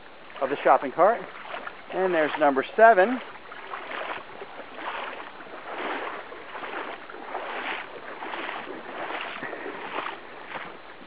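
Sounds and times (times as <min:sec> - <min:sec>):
swishing footsteps: 0:01.3 - 0:11.0.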